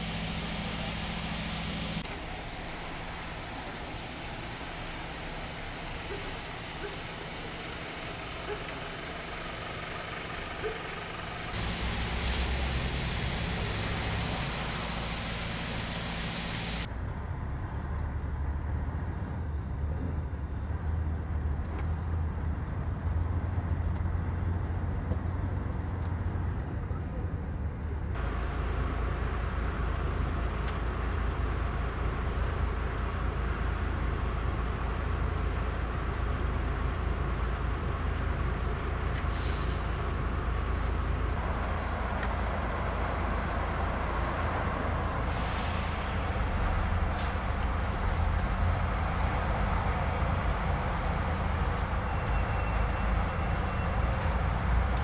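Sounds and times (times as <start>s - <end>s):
truck diesel engine rumble: 0.0s - 55.0s.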